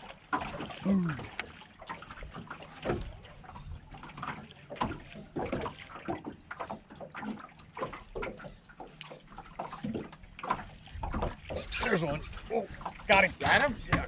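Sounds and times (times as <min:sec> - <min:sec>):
waves lapping against boat hull: 0:00.0 - 0:14.0.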